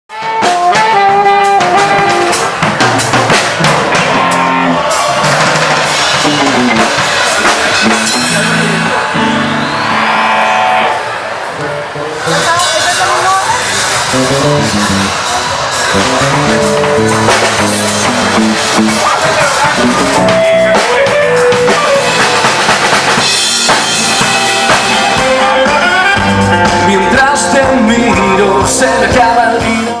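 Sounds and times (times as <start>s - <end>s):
live band playing: 0.1s - 30.0s
bass line: 0.2s - 30.0s
drum kit hits: 0.2s - 30.0s.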